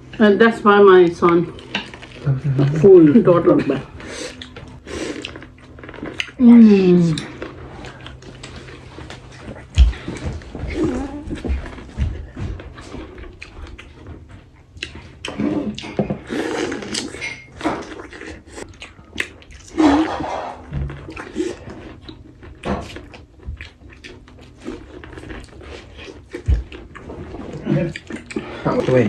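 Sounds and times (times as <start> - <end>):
person chewing food: 1.3 - 29.0.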